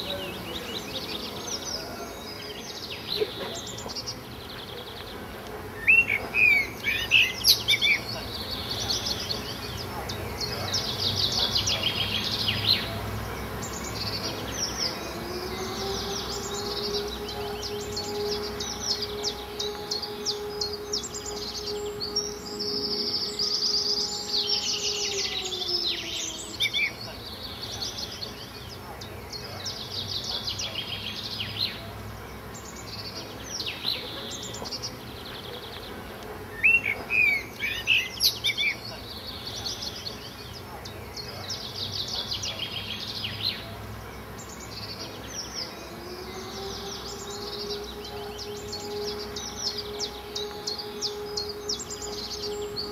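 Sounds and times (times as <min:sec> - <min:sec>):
steady low tone: 0:00.0 - 0:37.7, 0:42.8 - 0:52.9
background hiss: 0:00.0 - 0:52.9
small birds chirping: 0:00.0 - 0:52.9.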